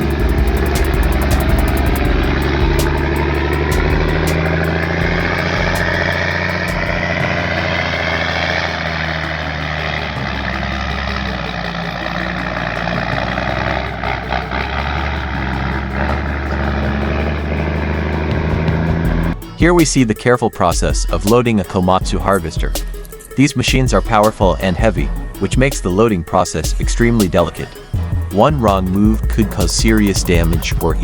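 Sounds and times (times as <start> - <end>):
truck engine droning: 0.0 - 31.0.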